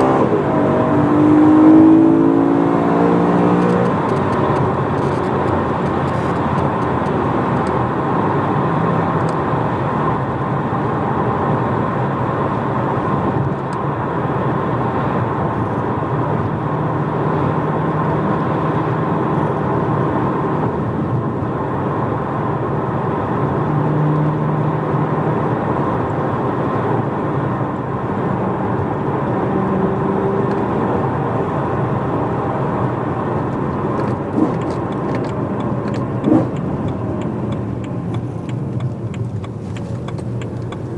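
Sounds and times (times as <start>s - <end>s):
car engine and exhaust cruising: 0.0s - 40.9s.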